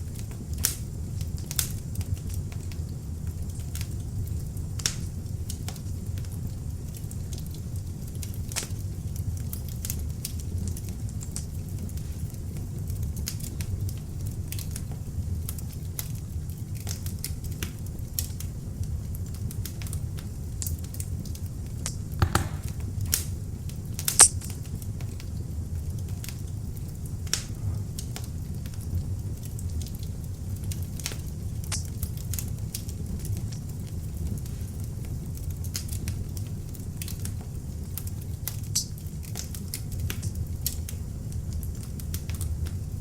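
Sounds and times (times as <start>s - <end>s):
fire crackles and pops: 0.0s - 43.0s
low rumble of fire flames: 0.0s - 43.0s.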